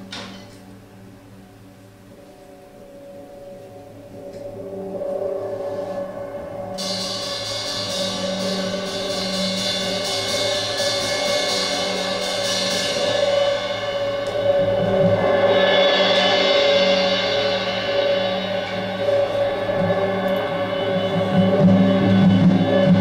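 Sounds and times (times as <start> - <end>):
sustained ringing tones: 1.3 - 23.0.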